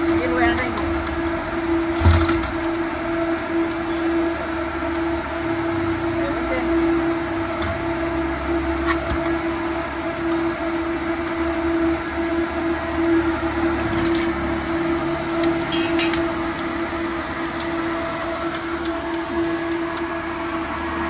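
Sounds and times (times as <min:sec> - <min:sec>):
machine whining and rumbling: 0:00.0 - 0:21.0.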